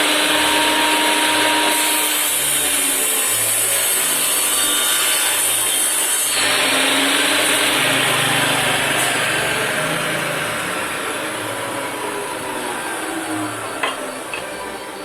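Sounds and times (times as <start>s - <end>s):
power tool whirring on wood: 0.0s - 15.0s.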